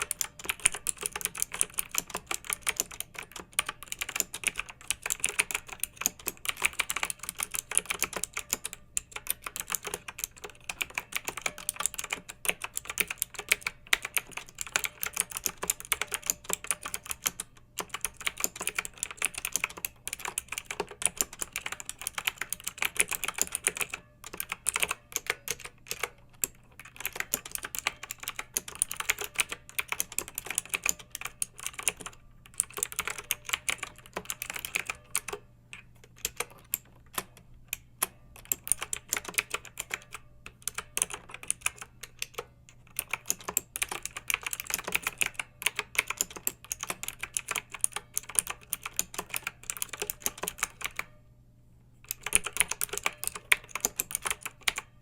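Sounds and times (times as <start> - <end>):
mechanical keyboard typing: 0.0 - 51.2, 52.0 - 55.0.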